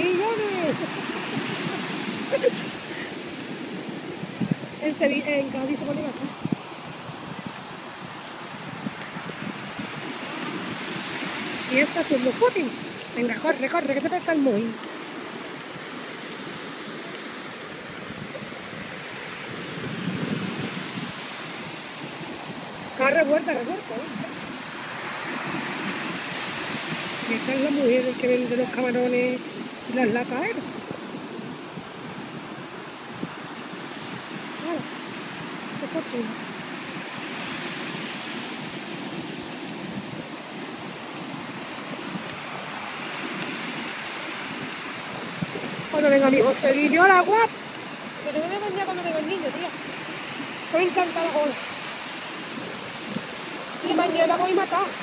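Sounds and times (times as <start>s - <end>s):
surf breaking on beach: 0.0s - 55.0s
wind buffeting microphone: 0.0s - 55.0s.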